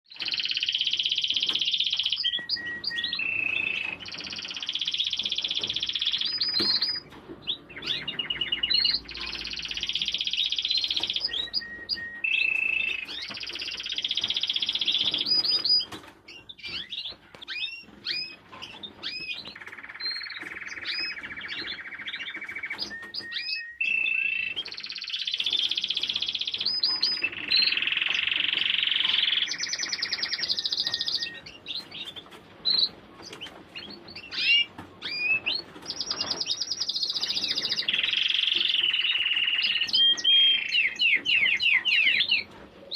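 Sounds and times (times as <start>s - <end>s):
canary singing trills: 0.1s - 42.9s.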